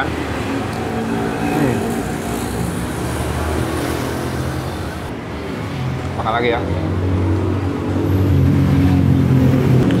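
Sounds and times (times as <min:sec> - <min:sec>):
vehicle engines humming: 0:00.0 - 0:10.0.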